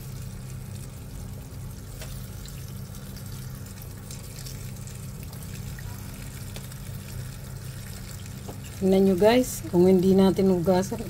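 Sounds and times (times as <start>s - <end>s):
steady low hum: 0.0s - 11.0s
tap water running into colander: 0.0s - 11.0s.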